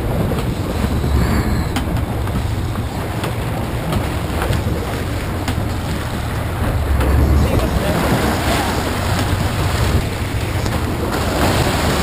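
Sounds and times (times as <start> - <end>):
boat engines rumbling: 0.0 - 12.0
water noise: 0.0 - 12.0
wind: 0.0 - 12.0.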